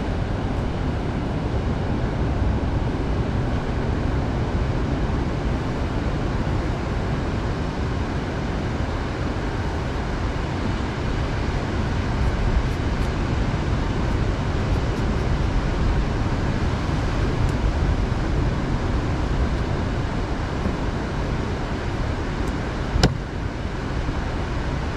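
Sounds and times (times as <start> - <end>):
wind: 0.0 - 24.9.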